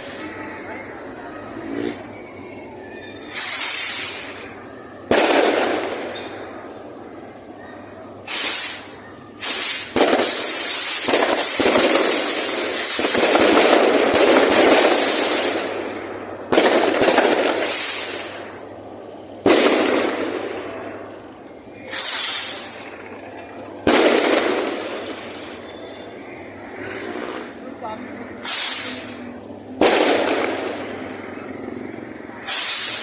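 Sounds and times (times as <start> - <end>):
fireworks bursting: 0.0 - 7.5, 8.2 - 33.0
fireworks hissing crackle: 0.0 - 7.6, 8.2 - 33.0.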